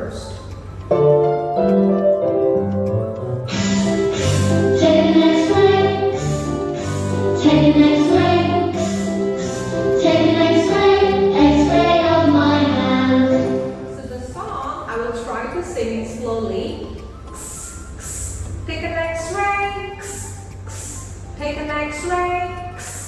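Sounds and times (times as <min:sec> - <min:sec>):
children's song with music: 0:00.0 - 0:23.0.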